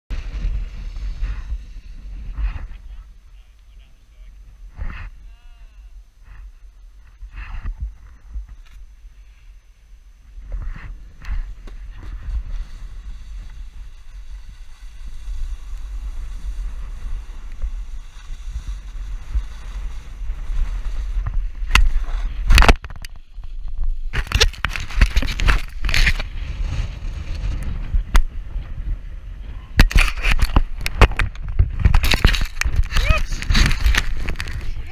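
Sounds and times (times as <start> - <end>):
snowboard scraping over snow: 0.1 - 3.2, 4.4 - 5.3, 10.3 - 34.9
wind rumbling on microphone: 0.1 - 34.9.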